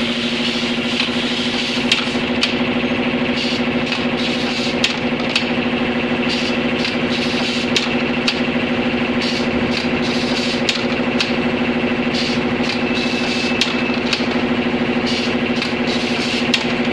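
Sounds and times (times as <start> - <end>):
machine humming: 0.0 - 16.9
sharp machine clicks: 0.3 - 16.9.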